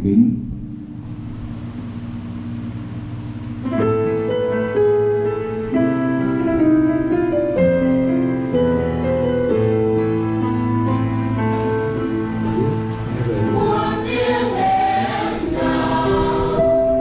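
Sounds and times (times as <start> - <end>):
keyboard playing hymn chords: 0.6 - 17.0.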